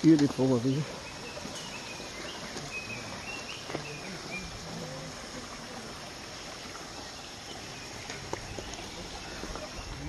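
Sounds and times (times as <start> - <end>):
stream running over rocks: 0.0 - 10.0.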